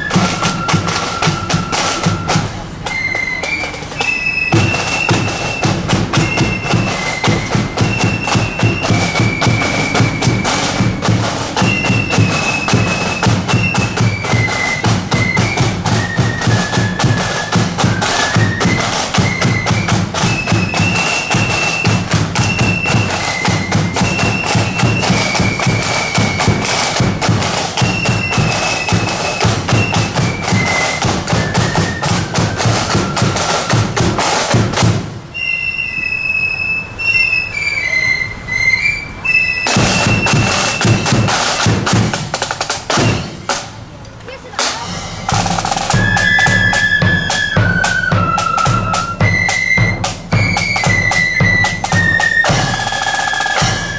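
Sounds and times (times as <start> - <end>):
bass and side drums: 0.0 - 35.3, 39.6 - 53.9
flutes playing melody: 0.0 - 43.6, 44.7 - 53.9.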